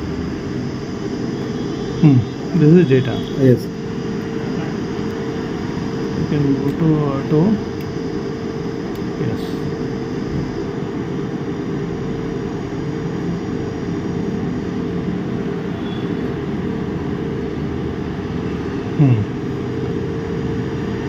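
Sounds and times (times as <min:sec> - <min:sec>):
mechanical drone with low hum: 0:00.0 - 0:21.0.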